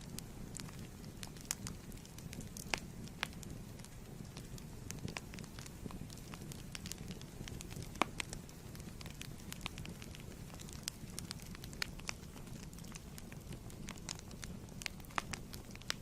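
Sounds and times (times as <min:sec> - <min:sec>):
low steady rumble: 0:00.0 - 0:16.0
wood fire crackling and popping: 0:00.0 - 0:16.0.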